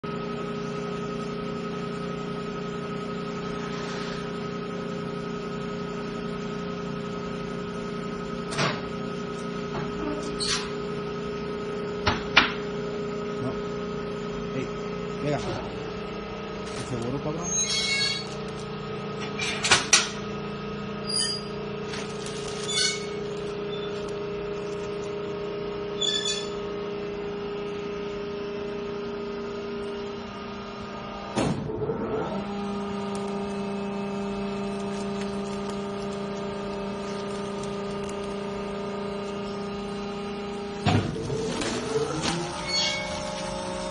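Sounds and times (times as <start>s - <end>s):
baler motor humming: 0.0s - 19.5s, 20.1s - 31.4s, 32.0s - 43.9s.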